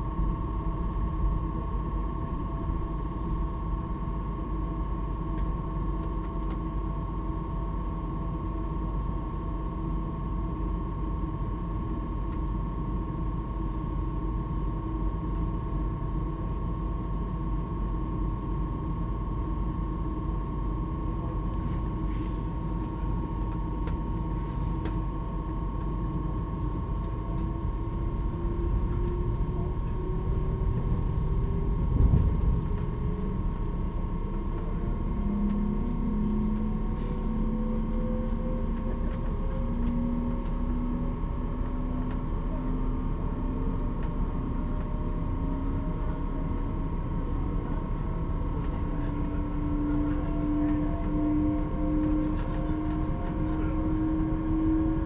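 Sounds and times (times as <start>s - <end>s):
steady high hum: 0.0s - 55.0s
train running rumble: 0.0s - 55.0s
electric drive whine: 8.7s - 55.0s.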